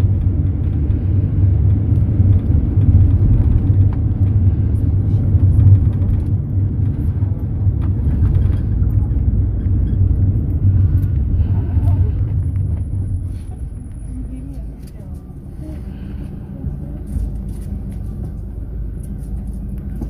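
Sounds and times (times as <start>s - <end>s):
minibus engine and road noise: 0.0s - 20.0s.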